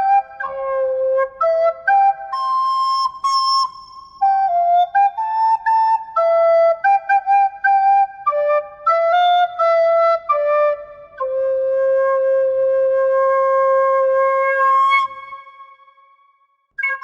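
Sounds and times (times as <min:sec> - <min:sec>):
flute playing slow melody: 0:00.0 - 0:16.1, 0:16.8 - 0:17.0.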